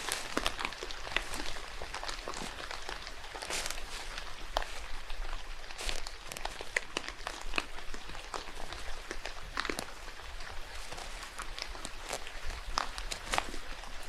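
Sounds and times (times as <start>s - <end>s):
footsteps on wet path: 0.0s - 14.0s
rain falling in forest: 0.0s - 14.0s.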